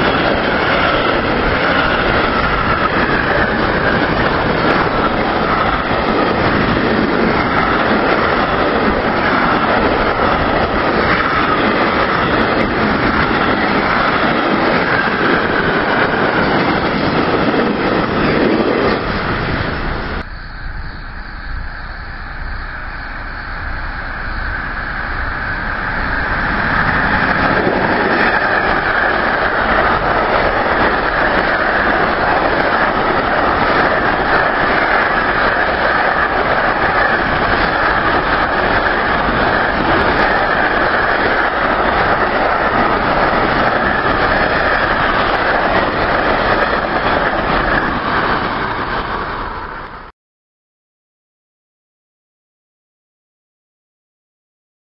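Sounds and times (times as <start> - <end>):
train wheels on rail: 0.0 - 50.1.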